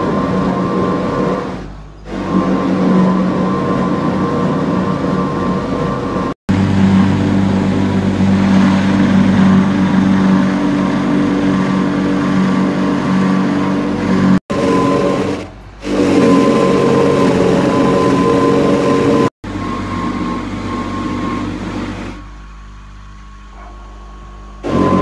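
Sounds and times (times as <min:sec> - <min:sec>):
rubber tyre grinding on roller: 0:00.0 - 0:22.3, 0:24.6 - 0:25.0
motor hum: 0:00.0 - 0:25.0.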